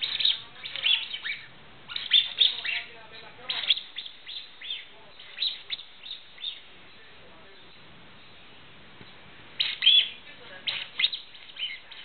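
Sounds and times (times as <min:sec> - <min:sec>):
young sparrow chirping: 0:00.0 - 0:12.0.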